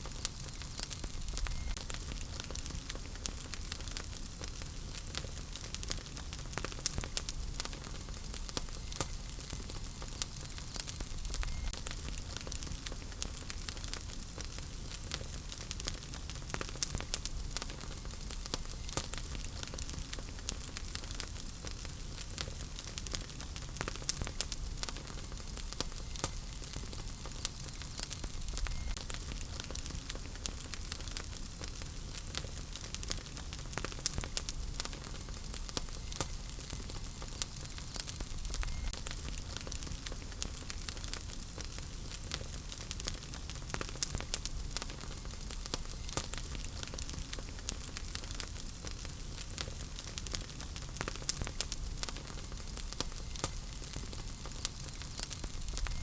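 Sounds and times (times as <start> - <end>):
fire crackling and popping: 0.0 - 56.0
flames hissing: 0.0 - 56.0.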